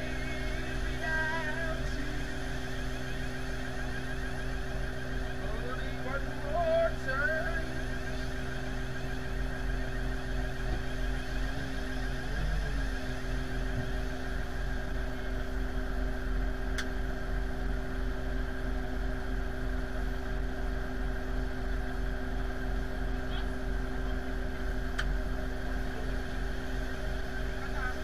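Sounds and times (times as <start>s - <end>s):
tug engine idling: 0.0s - 28.0s.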